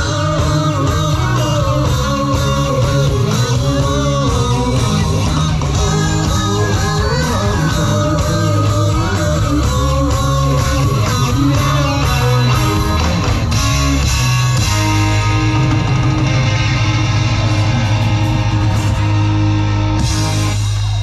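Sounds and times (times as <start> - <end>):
electric guitar bending notes: 0.0 - 21.0
live rock band playing: 0.0 - 21.0.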